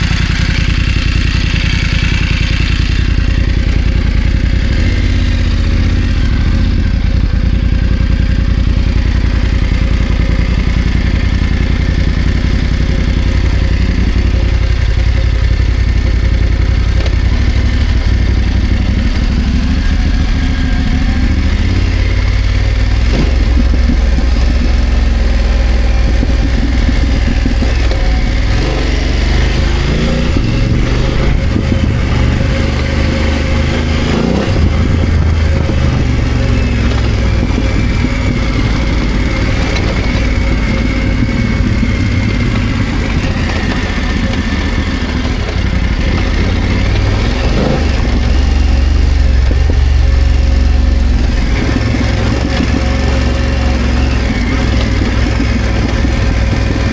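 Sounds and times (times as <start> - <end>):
motorcycle engine at low revs: 0.0 - 56.9.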